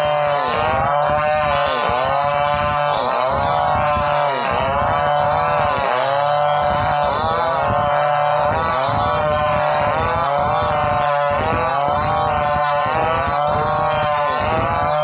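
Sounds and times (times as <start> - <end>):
chainsaws cutting log: 0.0 - 15.0.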